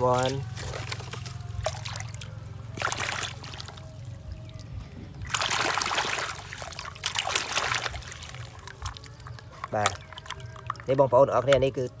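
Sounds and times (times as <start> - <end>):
water splashing in a basin: 0.0 - 12.0.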